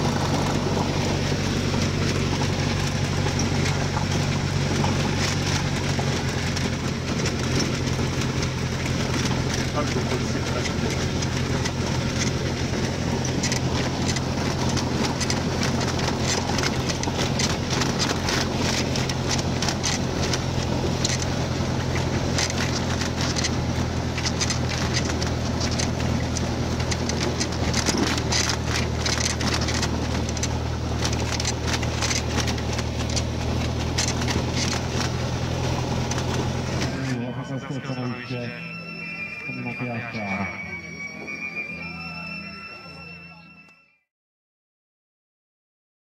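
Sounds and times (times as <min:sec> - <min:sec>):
rapid irregular crackle: 0:00.0 - 0:37.1
propeller plane engine drone: 0:00.0 - 0:43.5.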